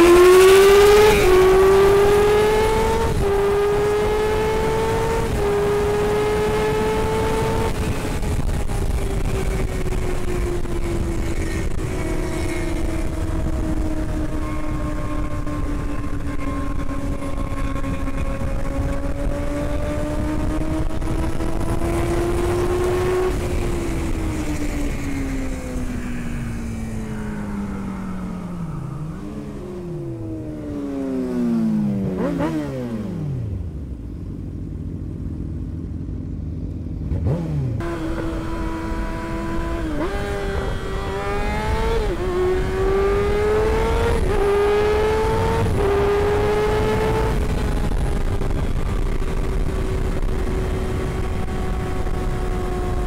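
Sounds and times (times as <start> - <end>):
wind noise: 0.0 - 34.0, 37.1 - 53.0
motorcycle engine revving: 0.0 - 53.0.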